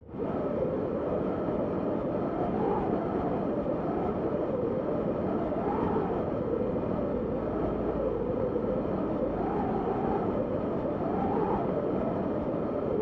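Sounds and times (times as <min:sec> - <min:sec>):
wind rushing howl: 0:00.0 - 0:13.0.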